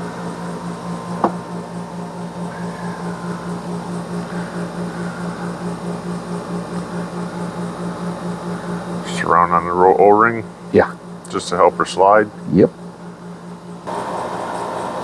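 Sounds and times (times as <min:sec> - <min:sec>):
pulsing mechanical hum: 0:00.0 - 0:15.0.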